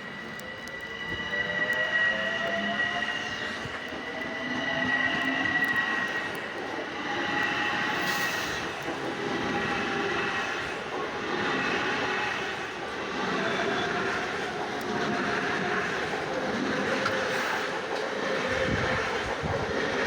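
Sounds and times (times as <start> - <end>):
high-pitched train motor whine: 0.0 - 20.0
train wheel and rail noise: 0.0 - 20.0.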